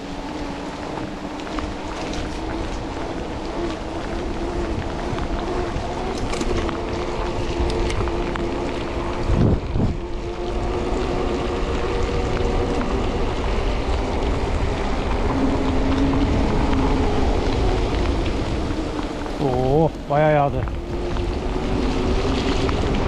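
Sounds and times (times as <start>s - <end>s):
bike tyres hissing on wet asphalt: 0.0s - 23.0s
wind on microphone: 0.0s - 23.0s.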